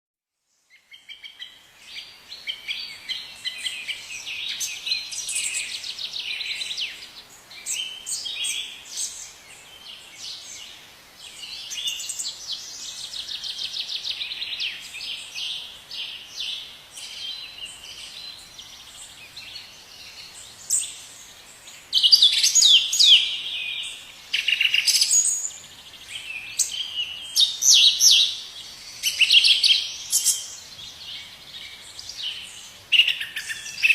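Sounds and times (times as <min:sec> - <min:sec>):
small birds chirping and trilling: 0:00.4 - 0:33.9.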